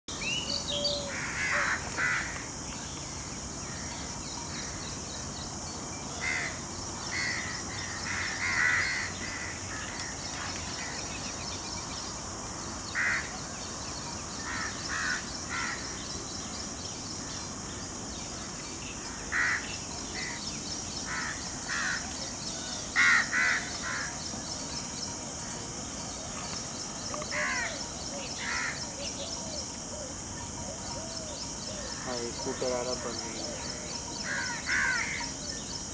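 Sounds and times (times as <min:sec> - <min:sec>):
high-pitched hiss: 0:00.1 - 0:35.9.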